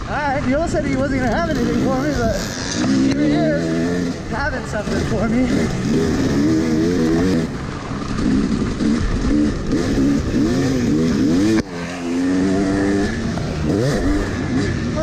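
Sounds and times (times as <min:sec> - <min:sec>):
two-stroke motocross engine revving: 0:00.0 - 0:15.0.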